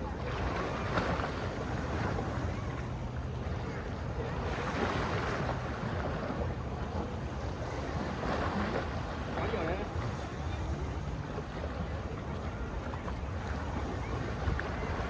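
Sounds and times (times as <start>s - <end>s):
sea waves and surf: 0.0s - 15.0s.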